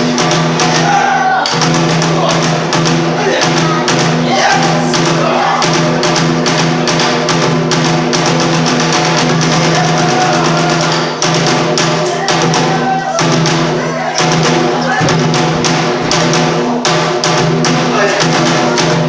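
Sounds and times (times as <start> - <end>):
rapid drum strikes: 0.0 - 19.0.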